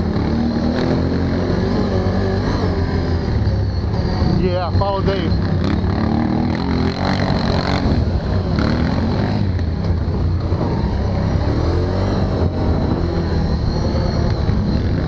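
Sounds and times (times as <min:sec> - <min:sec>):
thin high whine: 0:00.0 - 0:09.3, 0:09.9 - 0:15.0
atv engine running: 0:00.0 - 0:15.0.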